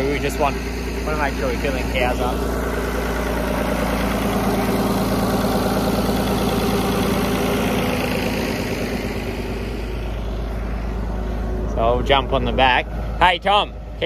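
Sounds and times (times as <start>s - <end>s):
tractor engine running steadily: 0.0s - 14.0s.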